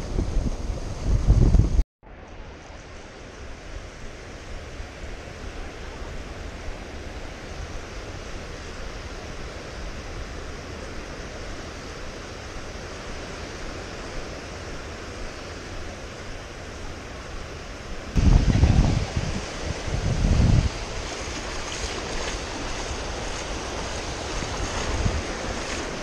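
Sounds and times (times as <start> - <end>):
ocean surf on beach: 0.0 - 26.0.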